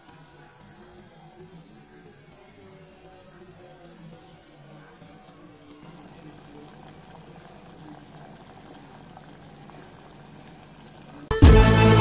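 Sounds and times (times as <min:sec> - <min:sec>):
water boiling in a pot: 0:00.0 - 0:11.4.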